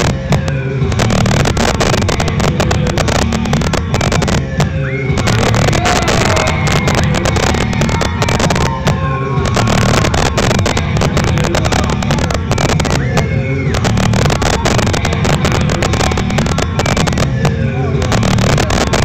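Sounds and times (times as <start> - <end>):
loud music over sound system: 0.0 - 19.0.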